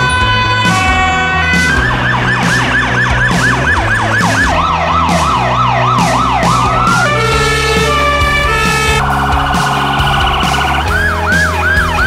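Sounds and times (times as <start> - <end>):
background music: 0.0 - 12.0
siren yelping: 0.0 - 12.0.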